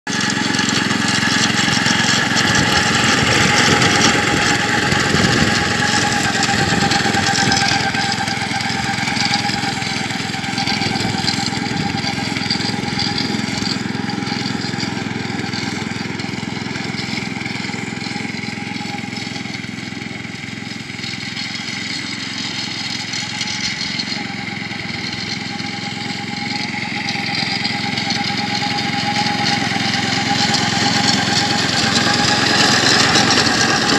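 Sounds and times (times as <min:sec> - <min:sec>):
mower engine running: 0:00.0 - 0:33.9.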